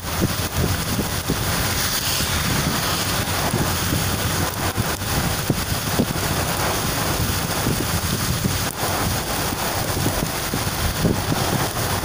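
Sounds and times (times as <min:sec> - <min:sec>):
heavy rain: 0:00.0 - 0:12.0
vehicle rumbling: 0:00.0 - 0:12.0
wind buffeting microphone: 0:00.0 - 0:12.0.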